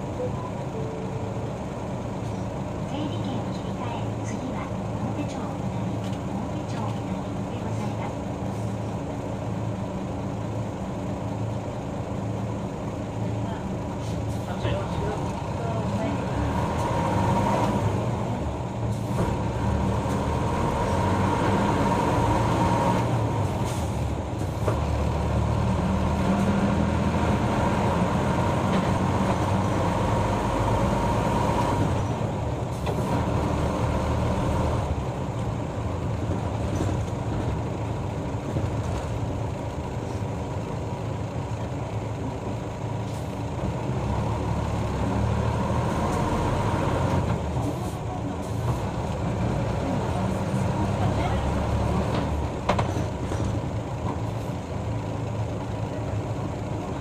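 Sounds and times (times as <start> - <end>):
diesel bus engine: 0.0 - 57.0.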